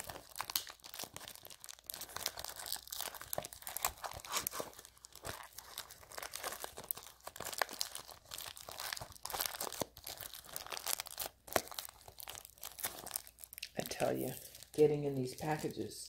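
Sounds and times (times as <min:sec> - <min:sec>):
plastic shrink-wrap crinkling: 0:00.0 - 0:16.0.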